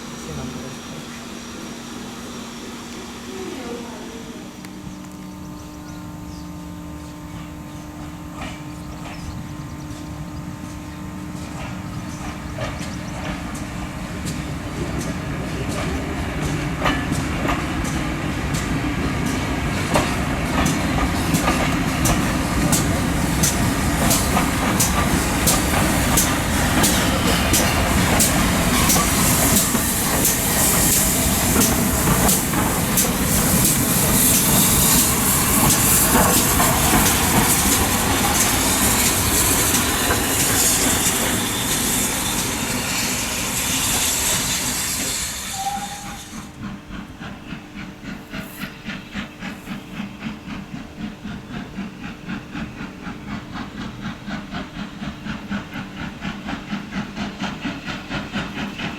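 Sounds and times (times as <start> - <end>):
loud steam hiss: 0.0 - 4.6, 10.1 - 58.9
steam locomotive exhaust beat: 0.0 - 58.9.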